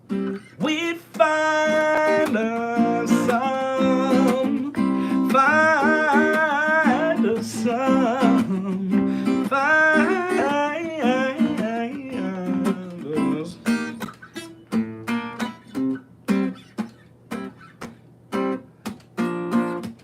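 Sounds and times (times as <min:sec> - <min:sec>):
strummed guitar: 0:00.0 - 0:20.0.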